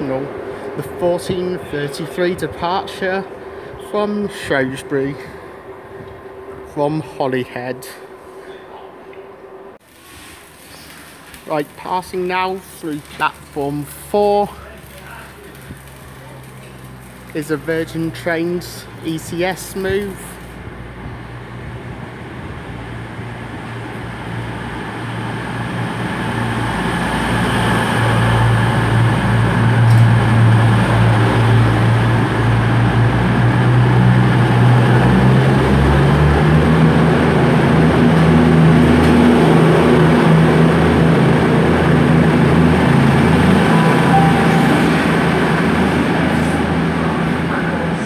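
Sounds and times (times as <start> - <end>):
diesel train engines droning: 0.0 - 48.0.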